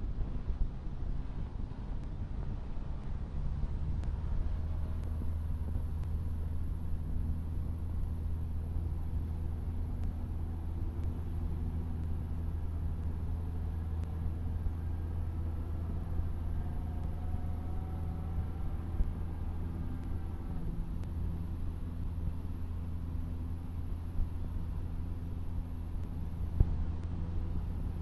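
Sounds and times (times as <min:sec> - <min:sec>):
airplane engine droning: 0:00.0 - 0:28.0.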